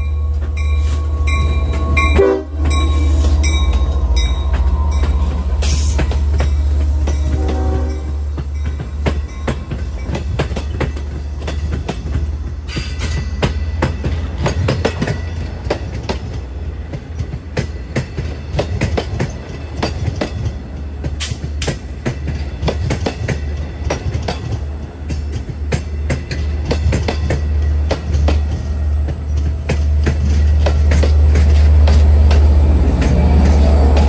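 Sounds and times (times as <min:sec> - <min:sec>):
train coaches rumbling: 0:00.0 - 0:34.0.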